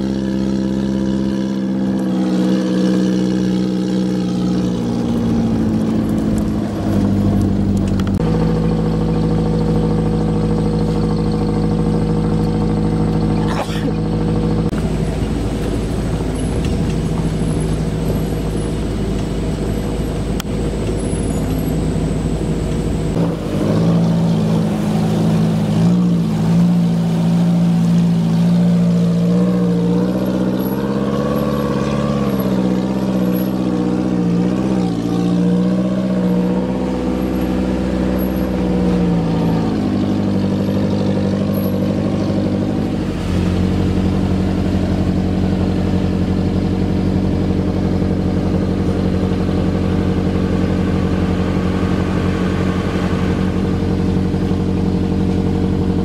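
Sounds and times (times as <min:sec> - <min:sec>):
off-road engines revving: 0:00.0 - 0:56.0.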